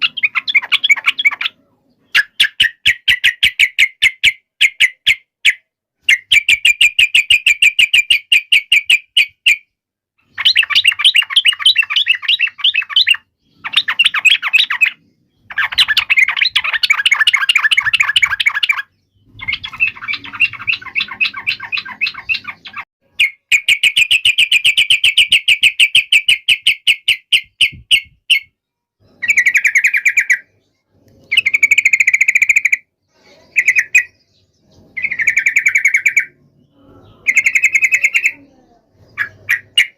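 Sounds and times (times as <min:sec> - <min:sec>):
bulbul harsh chattering calls: 0:00.0 - 0:05.1, 0:10.2 - 0:28.5, 0:29.1 - 0:39.9.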